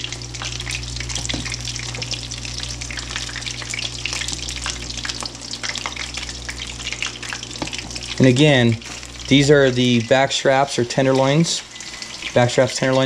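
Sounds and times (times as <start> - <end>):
fish frying in hot oil: 0.0 - 13.0
low steady hum: 0.0 - 13.0.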